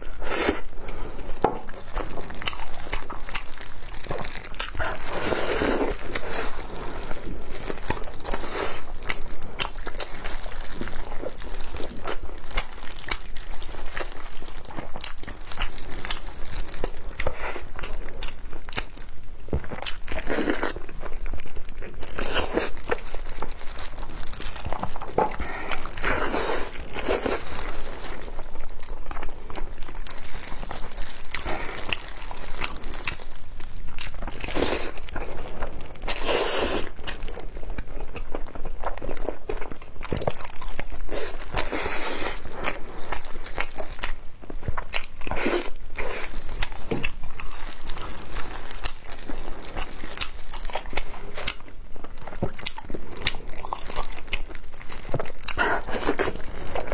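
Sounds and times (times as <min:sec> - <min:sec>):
crunching bites and chewing: 0:00.0 - 0:56.9
plastic gloves crinkling: 0:00.0 - 0:56.9
meat tearing: 0:01.6 - 0:19.2, 0:19.8 - 0:56.9.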